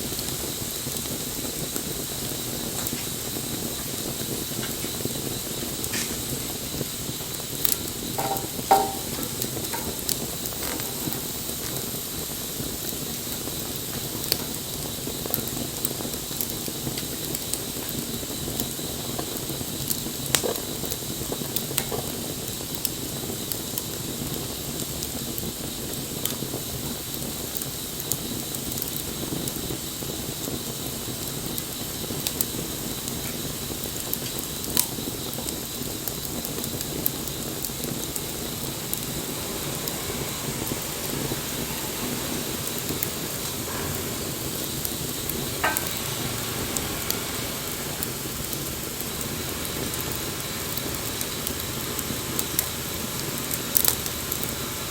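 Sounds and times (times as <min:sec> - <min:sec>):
bonfire flame hissing: 0:00.0 - 0:54.9
fire crackling and popping: 0:00.0 - 0:54.9.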